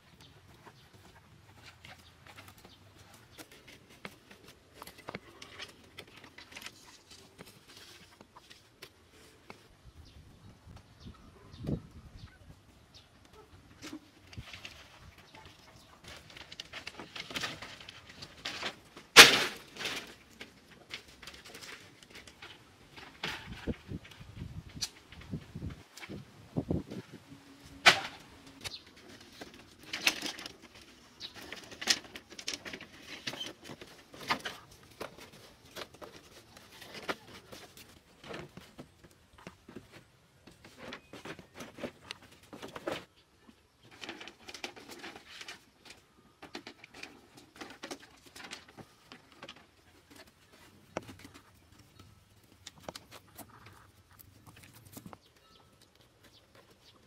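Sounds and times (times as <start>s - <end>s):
bamboo poles knocking and clattering: 0.1s - 9.7s, 13.3s - 27.2s, 27.8s - 57.0s.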